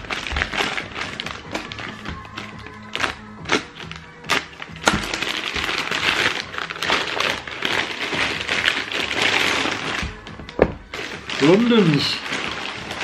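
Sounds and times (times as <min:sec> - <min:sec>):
tissue paper rustling and crumpling: 0:00.0 - 0:13.0.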